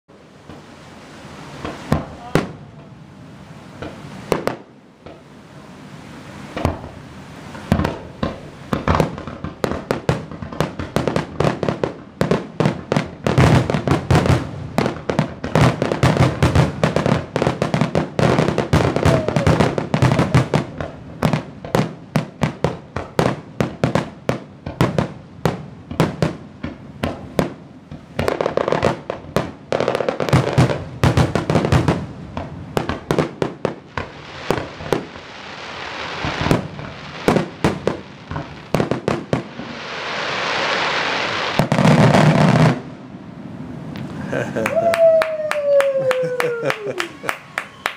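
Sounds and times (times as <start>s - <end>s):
fireworks crackling hiss: 0.2s - 44.9s
fireworks bursting: 0.4s - 47.9s.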